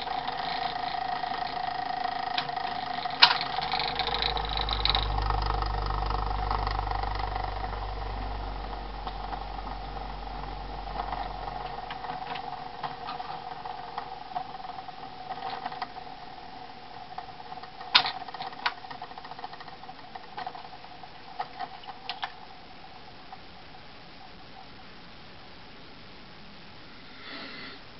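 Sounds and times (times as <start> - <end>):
model plane propeller whirring: 0.0 - 23.5.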